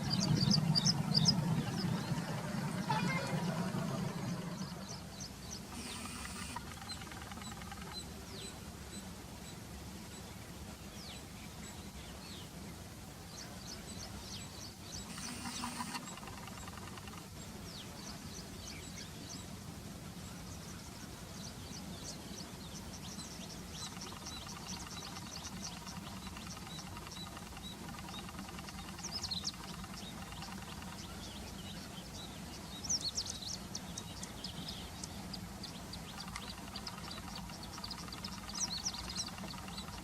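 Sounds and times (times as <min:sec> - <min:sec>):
low steady hum: 0:00.0 - 0:40.0
small birds chirping: 0:00.0 - 0:40.0.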